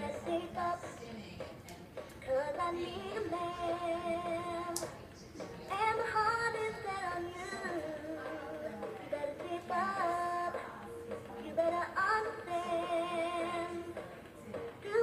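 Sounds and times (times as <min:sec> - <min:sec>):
woman singing: 0:00.0 - 0:05.0, 0:05.6 - 0:15.0
light backing music: 0:00.0 - 0:15.0.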